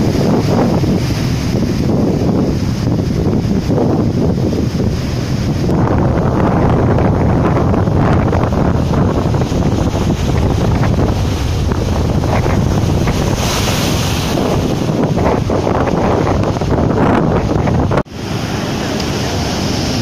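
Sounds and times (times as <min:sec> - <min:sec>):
surf crashing against seawall: 0:00.0 - 0:20.0
wind buffeting microphone: 0:00.0 - 0:20.0.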